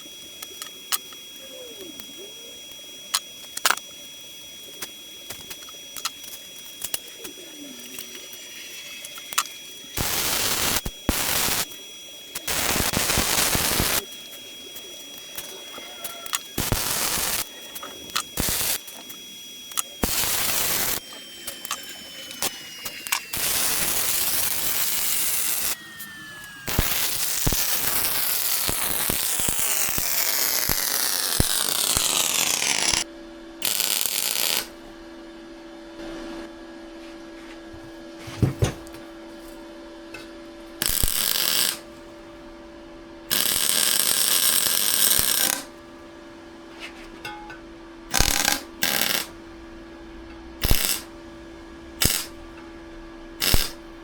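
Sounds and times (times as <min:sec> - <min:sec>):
welding arc noise: 0:00.0 - 0:35.1, 0:38.5 - 0:54.0.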